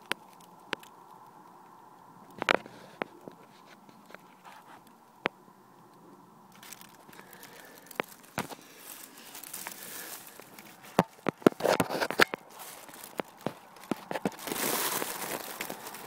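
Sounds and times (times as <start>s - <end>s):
hand rustling hoses and wiring: 0.0s - 16.0s.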